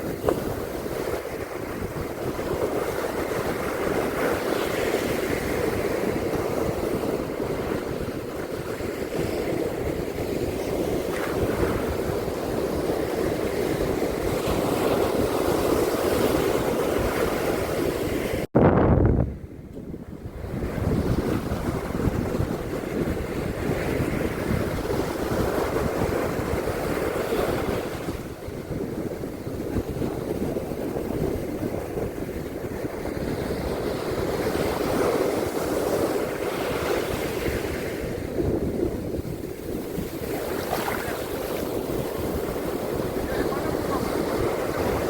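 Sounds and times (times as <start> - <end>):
ocean surf on a beach: 0.0 - 18.5, 19.3 - 45.0
wind buffeting microphone: 0.0 - 45.0.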